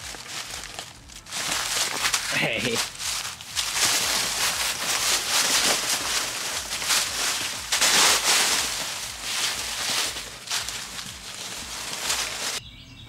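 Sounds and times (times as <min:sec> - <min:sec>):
dry leaves rustling and crunching: 0:00.0 - 0:12.6.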